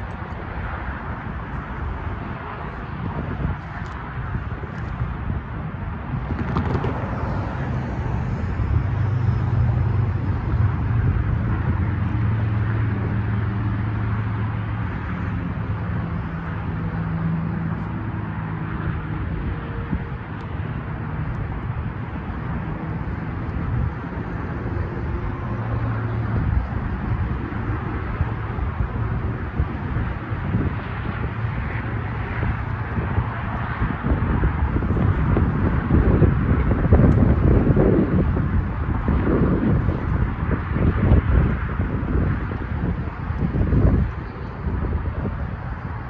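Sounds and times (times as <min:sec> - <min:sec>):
road traffic passing: 0:00.0 - 0:46.0.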